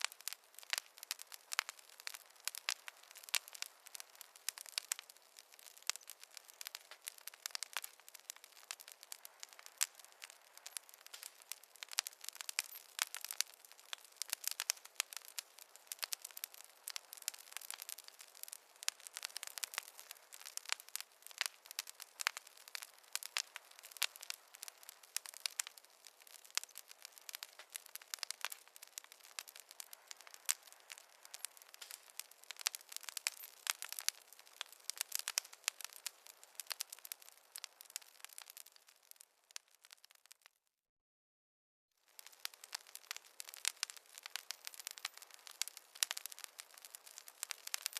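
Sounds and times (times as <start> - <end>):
wood fire crackling: 0.0 - 40.6, 42.0 - 47.9.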